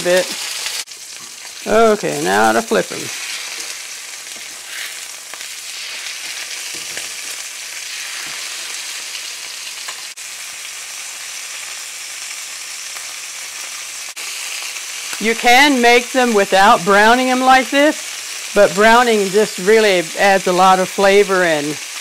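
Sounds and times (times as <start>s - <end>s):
meat sizzling in a skillet: 0.0s - 22.0s.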